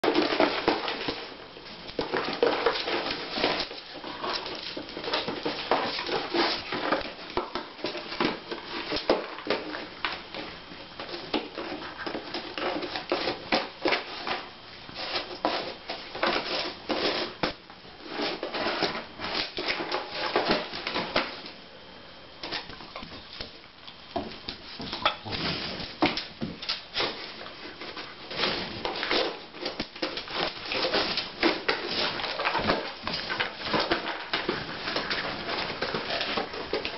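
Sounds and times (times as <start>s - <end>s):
puppy scratching cardboard box: 0.0s - 21.4s, 24.8s - 36.9s.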